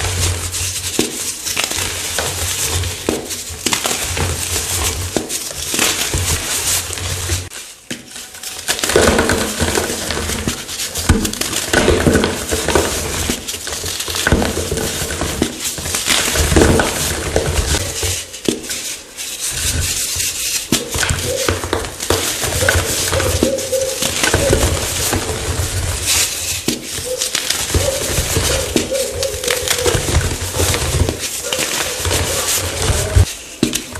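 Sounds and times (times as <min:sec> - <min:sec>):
chalk blocks being crushed: 0:00.0 - 0:33.9.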